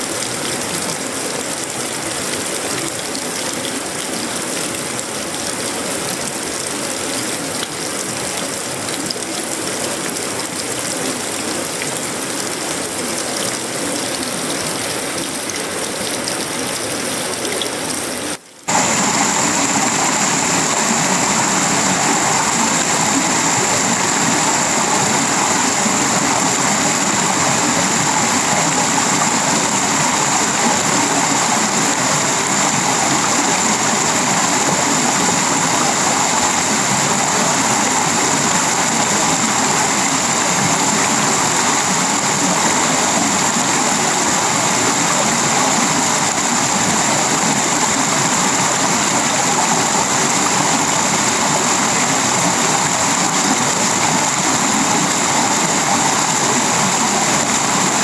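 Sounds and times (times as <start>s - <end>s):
heavy rain on a metal roof: 0.0s - 58.0s.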